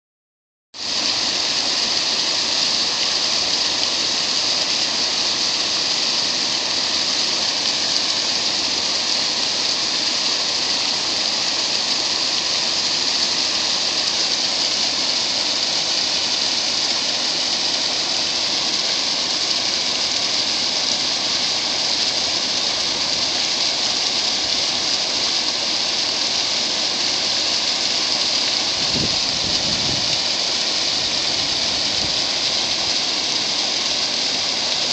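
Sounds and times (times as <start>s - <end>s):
river water rushing over dam: 0.8s - 34.9s.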